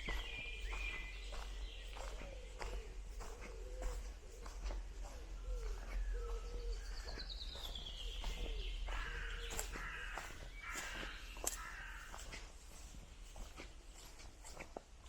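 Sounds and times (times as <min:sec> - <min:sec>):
high bird chirping: 0:00.0 - 0:12.2
birds calling: 0:00.0 - 0:14.4
footsteps on woodland path: 0:00.0 - 0:15.0.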